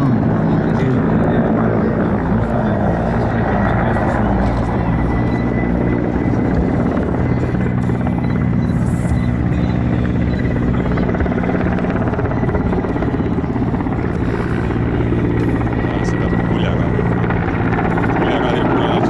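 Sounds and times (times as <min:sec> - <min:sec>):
helicopter rotor beat: 0:00.0 - 0:19.0
high engine whine: 0:00.0 - 0:19.0.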